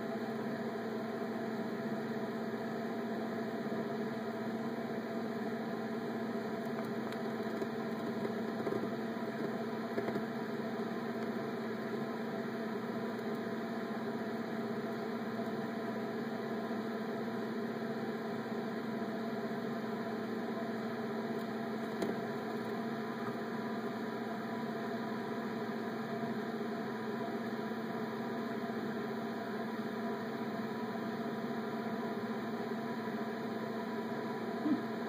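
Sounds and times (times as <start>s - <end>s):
water pump humming: 0.0s - 35.0s.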